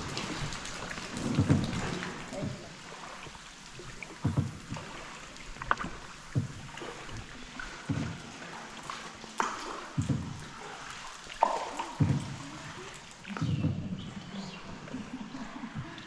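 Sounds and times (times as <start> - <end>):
paddle strokes splashing in water: 0.0 - 16.0.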